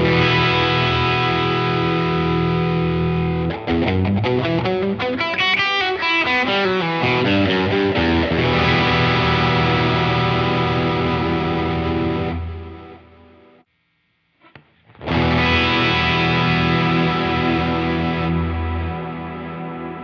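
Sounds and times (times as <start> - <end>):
overdriven electric guitar with delay: 0.0 - 13.6, 14.4 - 20.0.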